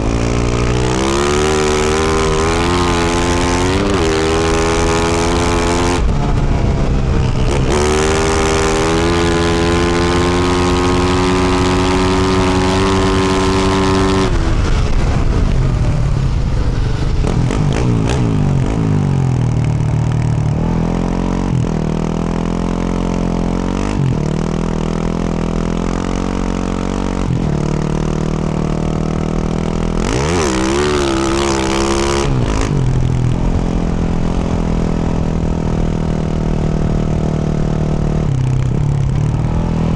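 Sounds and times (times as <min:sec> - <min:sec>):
dirt bike engine revving: 0:00.0 - 0:16.1, 0:17.1 - 0:39.9.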